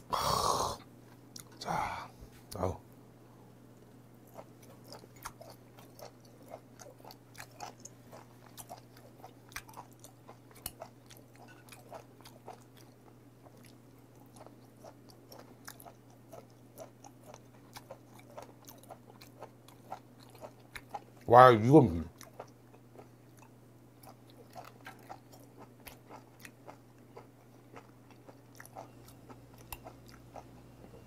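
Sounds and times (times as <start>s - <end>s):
chewing mouth smacks: 4.3s - 21.0s, 22.2s - 30.5s.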